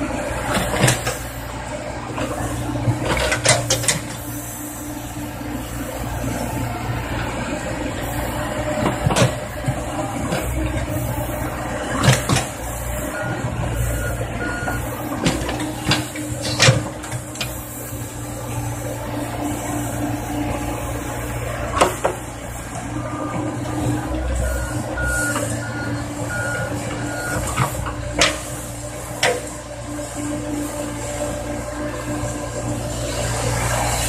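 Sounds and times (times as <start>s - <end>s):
excavator diesel engine drone: 0.0s - 34.0s.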